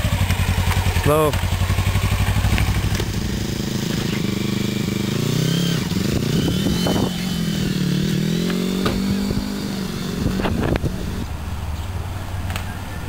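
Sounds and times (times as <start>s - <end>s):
motorcycle engine pulling away: 0.0s - 12.2s.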